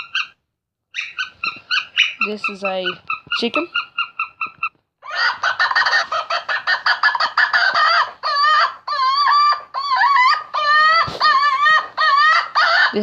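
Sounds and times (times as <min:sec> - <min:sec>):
recorded chicken clucks and squawks: 0:00.0 - 0:13.0.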